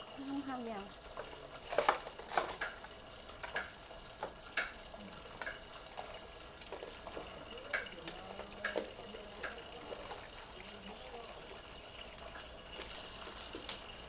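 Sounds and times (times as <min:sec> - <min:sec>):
utensils and cookware clinking: 0:00.7 - 0:13.9.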